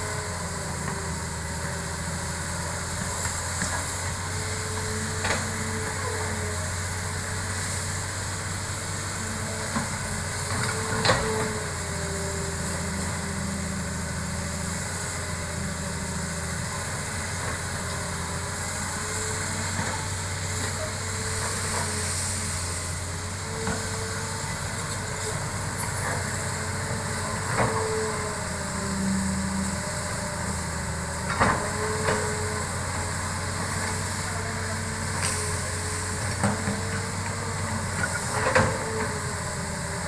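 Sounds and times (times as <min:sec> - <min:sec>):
excavator engine hum: 0:00.0 - 0:40.0
hydraulic whine: 0:00.0 - 0:40.0.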